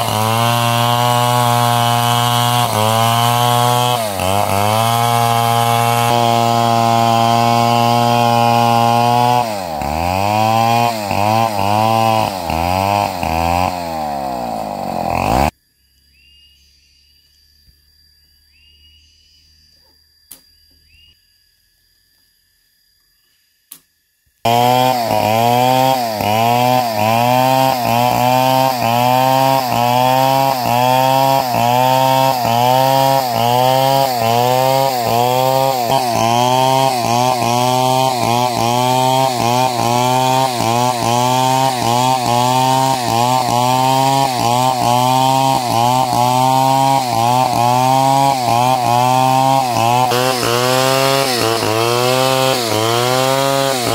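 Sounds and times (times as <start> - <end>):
chainsaw cutting log: 0.0 - 15.6, 24.4 - 53.9.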